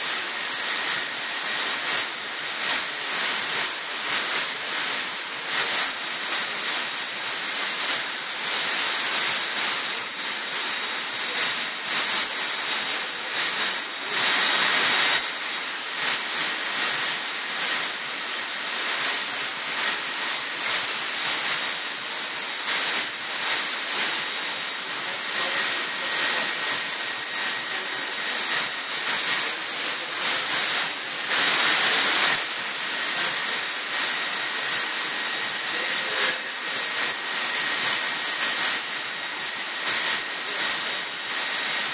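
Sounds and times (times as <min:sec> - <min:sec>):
high-pitched whine: 0:00.0 - 0:41.9
laser cutter airy rush: 0:00.0 - 0:41.9.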